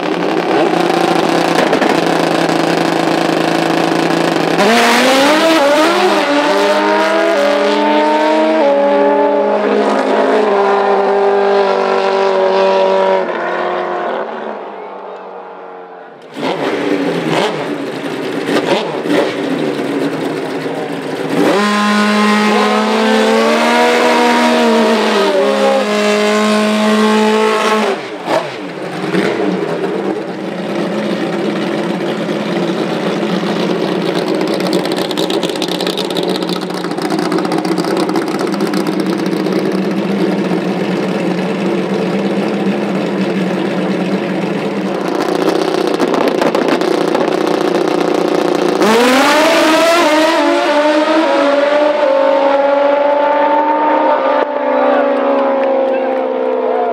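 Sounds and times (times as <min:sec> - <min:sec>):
motorcycle engines revving: 0:00.0 - 0:56.9.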